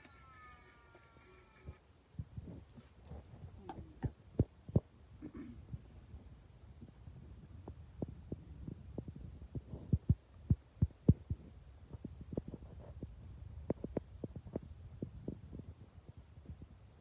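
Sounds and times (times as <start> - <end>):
faint low hum: 0.0 - 17.0
soft low thumps and knocks: 2.2 - 16.8.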